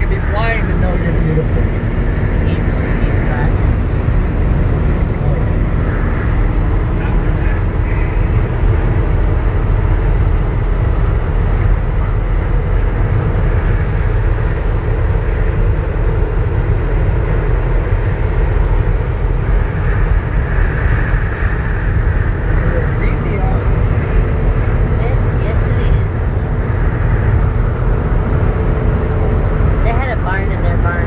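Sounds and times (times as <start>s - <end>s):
truck engine and tyre rumble: 0.0s - 31.0s.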